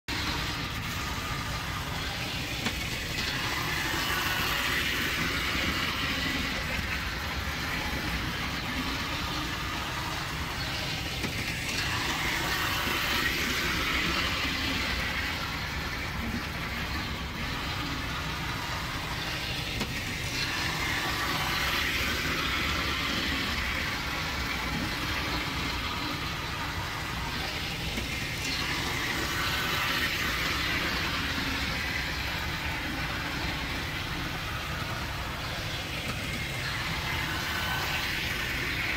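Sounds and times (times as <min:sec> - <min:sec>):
wheels rattling on rails: 0:00.1 - 0:38.9.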